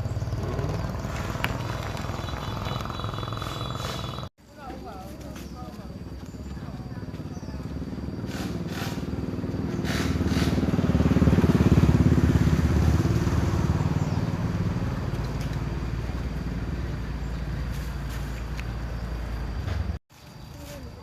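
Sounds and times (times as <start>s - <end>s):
motorcycle passing by: 0.0s - 4.3s, 6.0s - 20.0s.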